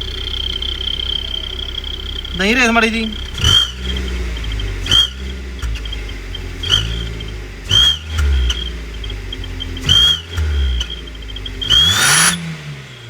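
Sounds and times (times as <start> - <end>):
car engine revving: 0.0 - 13.0
exhaust whistle: 0.0 - 13.0.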